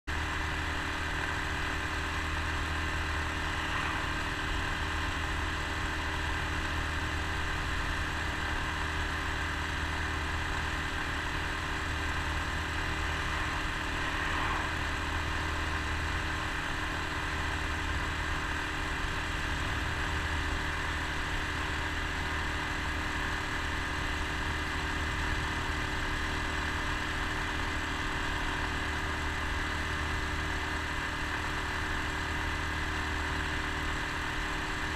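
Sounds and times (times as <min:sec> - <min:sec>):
wind and road noise: 0:00.1 - 0:34.8.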